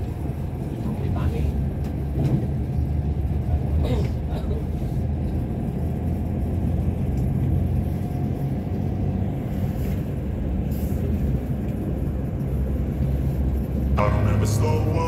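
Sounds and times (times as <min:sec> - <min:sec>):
large vehicle engine rumble: 0:00.0 - 0:15.0.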